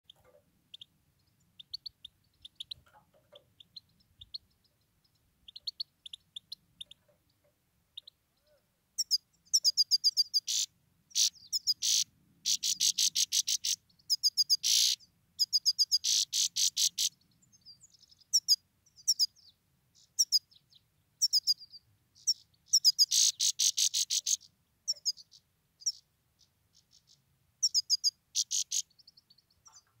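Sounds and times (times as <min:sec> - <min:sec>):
goldfinch chirps and twittering: 0:00.1 - 0:07.4, 0:09.0 - 0:30.0.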